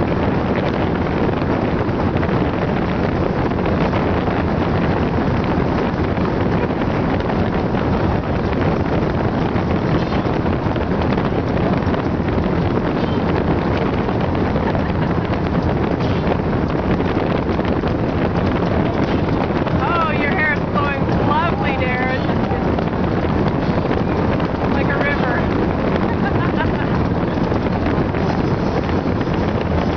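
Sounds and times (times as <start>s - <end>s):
boat engine: 0.0s - 29.9s
water noise: 0.0s - 29.9s
wind buffeting microphone: 0.0s - 29.9s.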